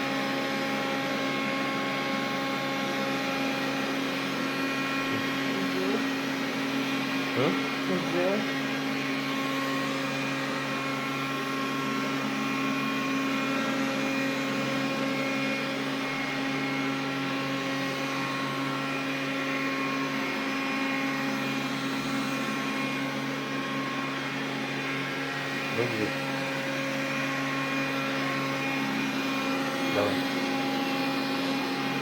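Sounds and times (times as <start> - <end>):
vacuum cleaner humming: 0.0 - 32.0.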